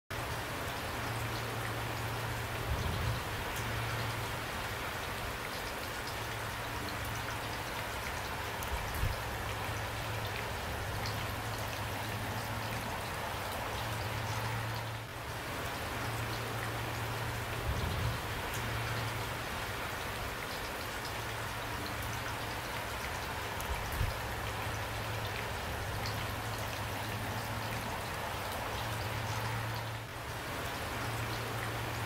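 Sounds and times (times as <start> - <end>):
steady rain falling: 0.1 - 32.0.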